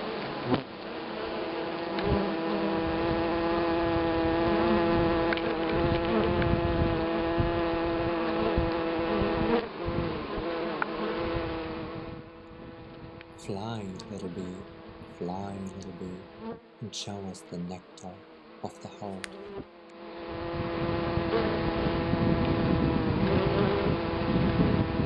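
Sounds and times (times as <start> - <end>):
honeybee buzzing: 0.0 - 25.0.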